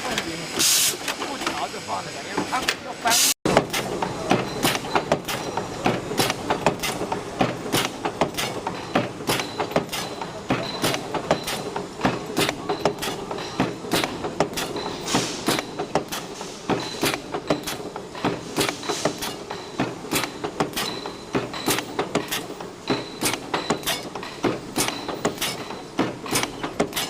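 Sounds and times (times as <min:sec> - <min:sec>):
chain-making machine clattering: 0:03.6 - 0:27.0.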